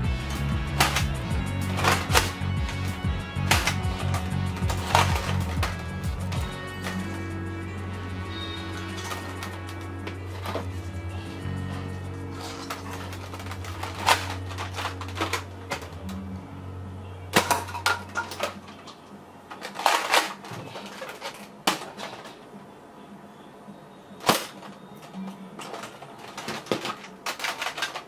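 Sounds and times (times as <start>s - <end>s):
low music bed: 0.0s - 28.0s.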